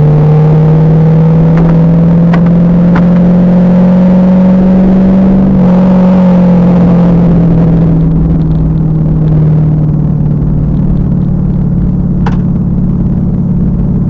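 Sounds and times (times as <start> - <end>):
car engine pulling hard: 0.0 - 14.0.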